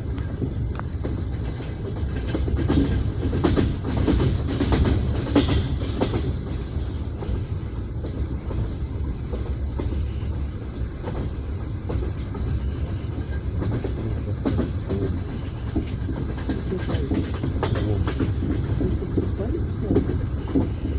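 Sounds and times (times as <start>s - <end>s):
track clicks and knocks: 0.0s - 20.9s
train wheels rumbling on rails: 0.0s - 20.9s.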